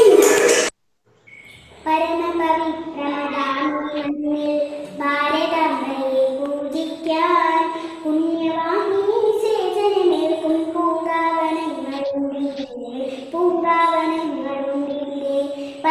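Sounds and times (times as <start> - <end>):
girl singing: 1.9 - 15.9.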